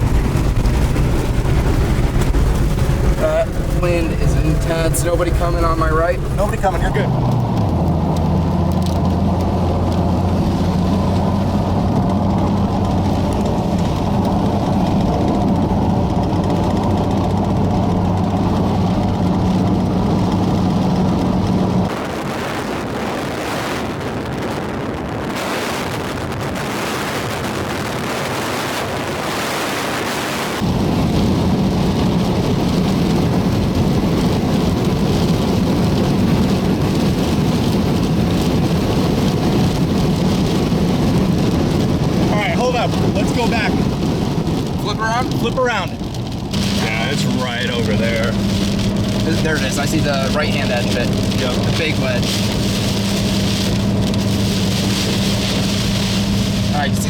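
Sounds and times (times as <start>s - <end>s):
car engine and road drone: 0.0s - 57.0s
wind and rain on car: 0.0s - 57.0s.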